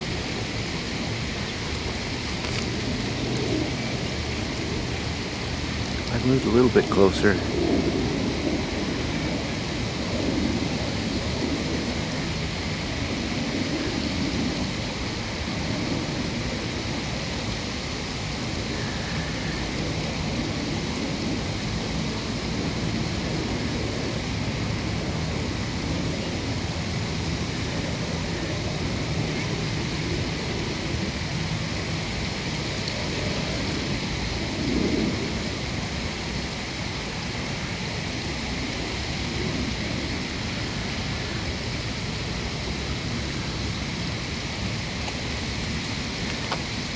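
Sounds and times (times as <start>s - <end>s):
outdoor background noise: 0.0s - 46.9s.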